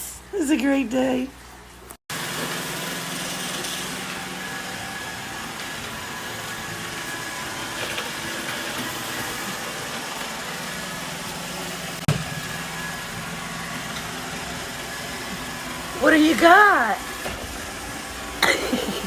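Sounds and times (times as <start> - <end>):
robot vacuum motor hum: 2.1 - 19.0.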